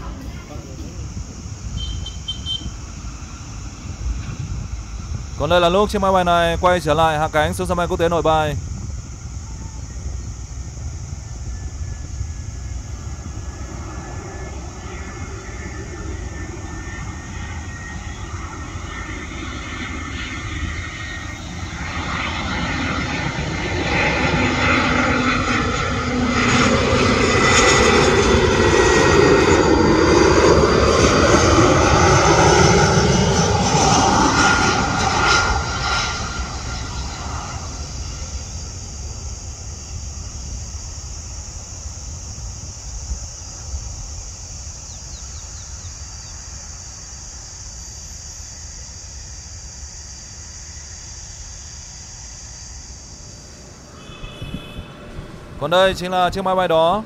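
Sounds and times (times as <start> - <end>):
jet airliner flying overhead: 0.0 - 57.0.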